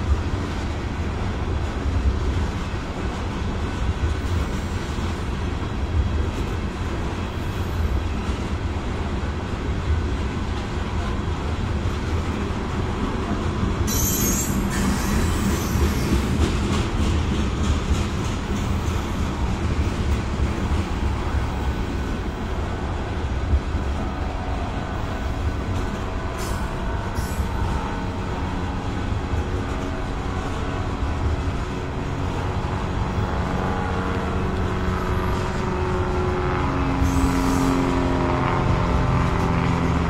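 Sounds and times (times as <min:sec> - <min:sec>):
train rumbling along track: 0:00.0 - 0:40.0.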